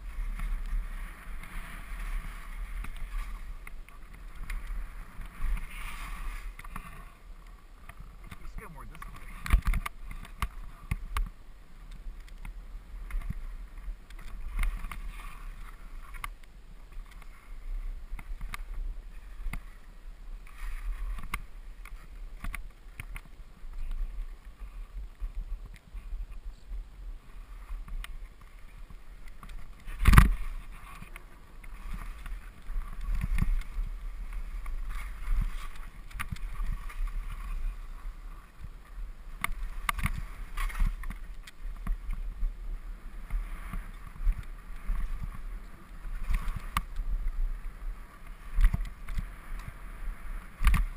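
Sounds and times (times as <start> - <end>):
skis swishing through snow: 0.0 - 10.9, 12.0 - 50.9.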